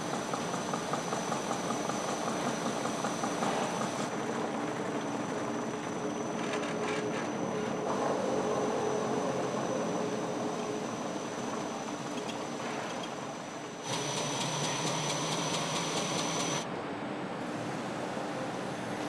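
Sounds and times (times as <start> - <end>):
factory machine hum: 0.0 - 19.0.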